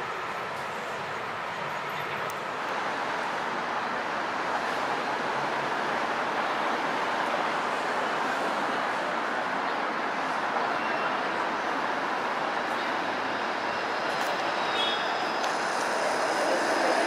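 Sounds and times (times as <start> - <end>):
street traffic hiss: 0.0 - 17.0.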